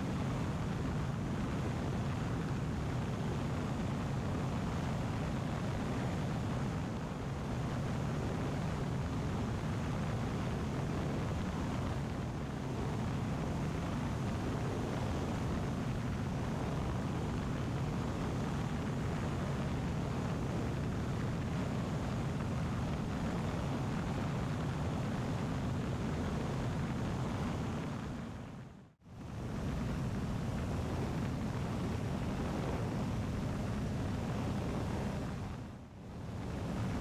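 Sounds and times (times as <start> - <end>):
light aircraft engine droning: 0.0 - 37.0
wind rush: 0.0 - 37.0.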